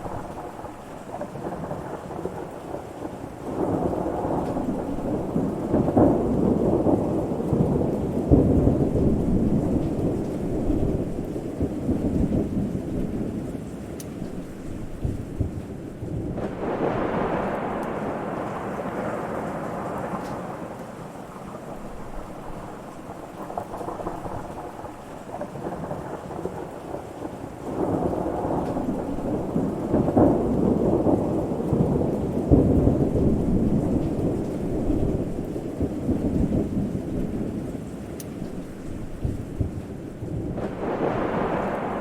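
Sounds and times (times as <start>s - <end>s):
steady rain: 0.0s - 42.0s
thunder rumbling: 0.0s - 42.0s.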